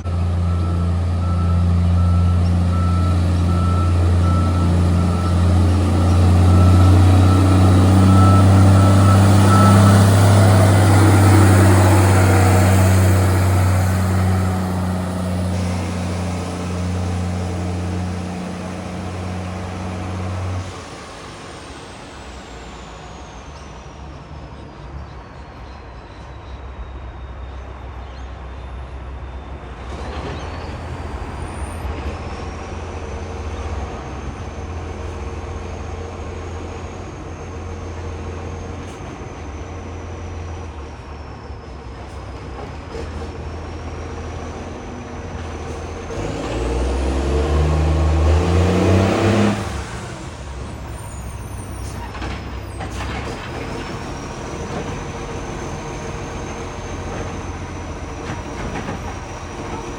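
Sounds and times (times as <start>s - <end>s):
diesel engine with leaking exhaust: 0.0s - 59.9s.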